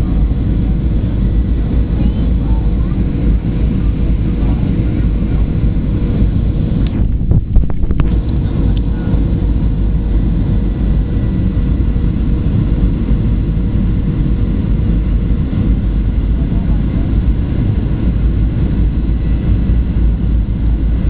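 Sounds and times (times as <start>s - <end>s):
airplane cabin roar: 0.0s - 21.0s.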